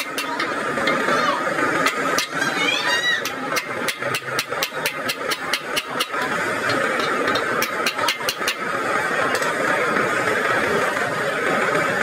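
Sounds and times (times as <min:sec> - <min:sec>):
steady engine-like hum: 0:00.0 - 0:12.0.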